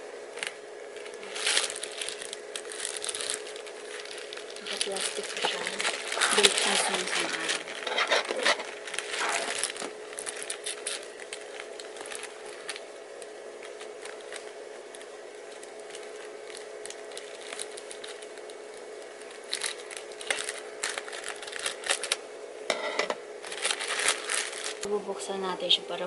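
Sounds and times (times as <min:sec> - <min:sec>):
faint steady hum: 0:00.0 - 0:26.0
plastic wrapping crinkling: 0:00.2 - 0:22.3, 0:23.4 - 0:25.0.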